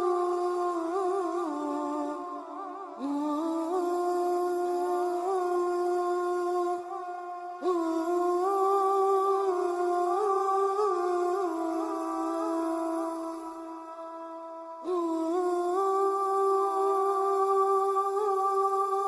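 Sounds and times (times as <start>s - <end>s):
person humming a slow melody: 0.0s - 19.0s.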